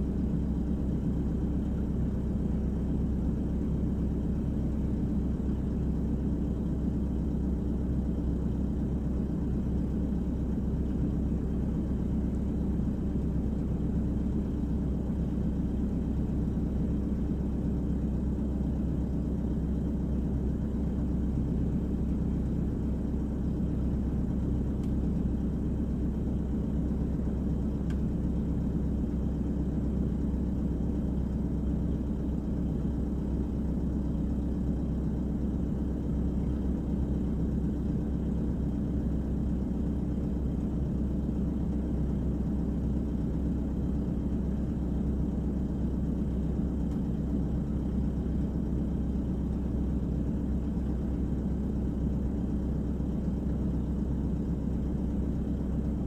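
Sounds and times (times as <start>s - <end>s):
diesel engine droning in cab: 0.0s - 56.0s.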